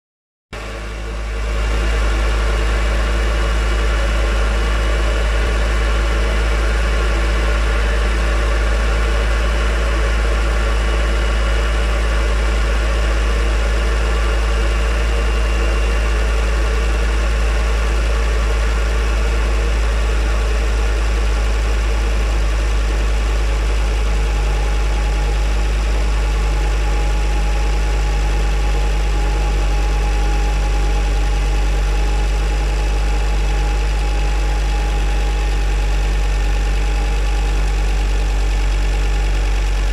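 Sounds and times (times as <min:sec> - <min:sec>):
car engine idling: 0:00.6 - 0:39.9.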